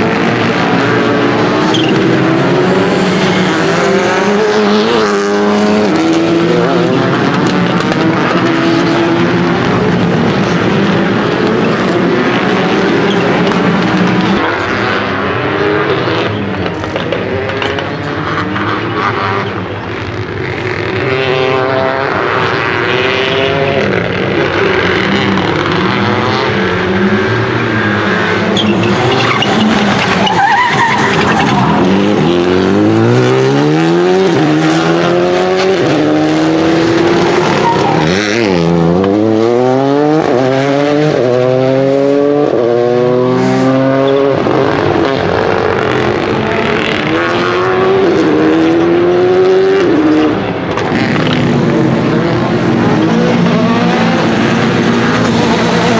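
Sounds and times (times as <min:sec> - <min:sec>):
rally car engine revving: 0:00.0 - 0:55.9
tyres skidding: 0:00.0 - 0:55.9.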